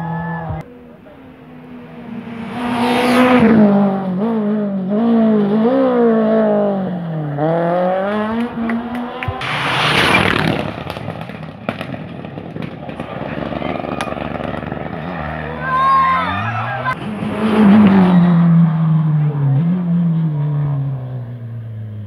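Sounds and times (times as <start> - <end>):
car passing rush: 0.6 - 22.0
rally car engine revving: 0.6 - 22.0.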